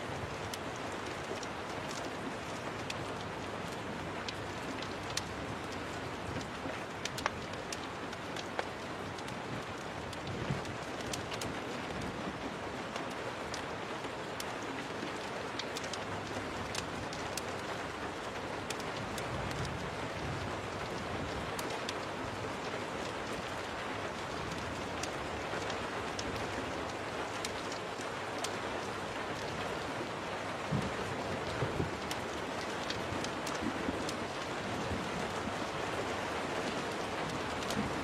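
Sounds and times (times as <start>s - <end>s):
rain on a window: 0.0s - 38.0s
wood fire crackling: 0.0s - 38.0s.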